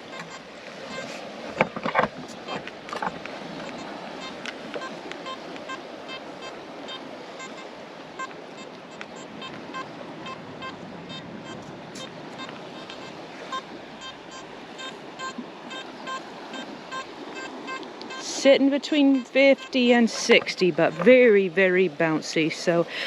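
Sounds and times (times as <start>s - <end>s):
metal detector short beeps: 0.0s - 1.2s, 3.6s - 21.5s
waves washing on shore: 0.0s - 23.0s.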